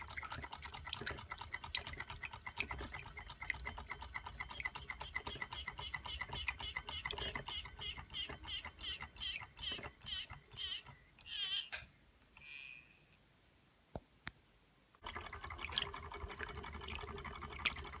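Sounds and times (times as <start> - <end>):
toy engine clicking and squeaking: 0.0 - 11.8, 15.0 - 18.0.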